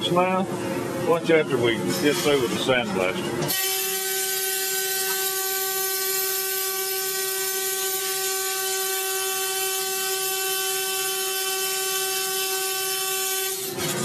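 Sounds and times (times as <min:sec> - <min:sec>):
multi-tone machine hum: 0:00.0 - 0:14.0.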